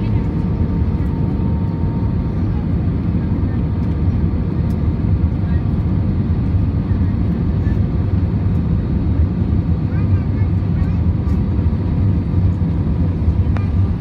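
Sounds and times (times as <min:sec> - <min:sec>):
jet engine cabin rumble: 0:00.0 - 0:14.0.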